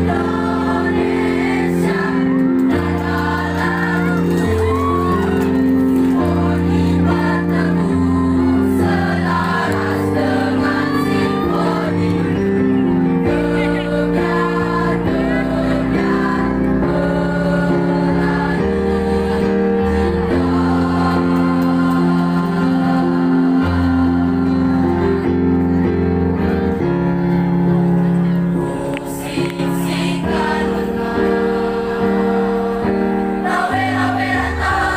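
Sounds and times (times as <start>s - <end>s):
children's choir singing in harmony: 0.0s - 34.9s.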